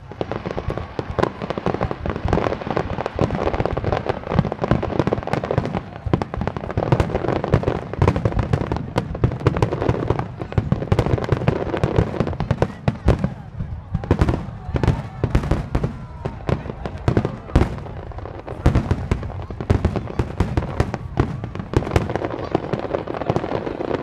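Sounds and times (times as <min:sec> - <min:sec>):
fireworks booming and crackling: 0:00.0 - 0:24.0.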